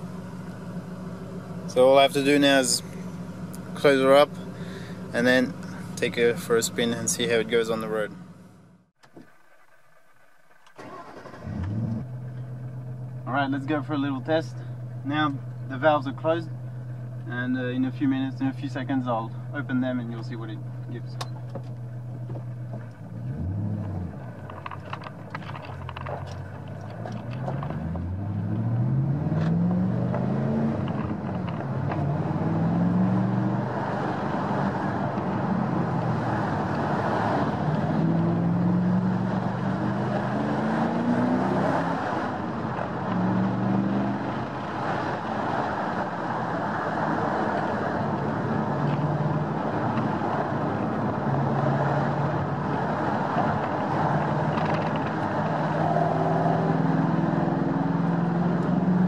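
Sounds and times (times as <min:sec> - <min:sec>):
car engine accelerating and shifting: 0:00.0 - 0:08.7, 0:10.8 - 0:59.0.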